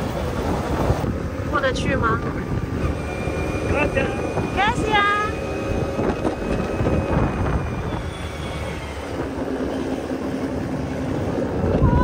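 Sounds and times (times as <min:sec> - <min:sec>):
motor scooter engine running: 0:00.0 - 0:12.0
wind rushing over microphone: 0:00.0 - 0:12.0.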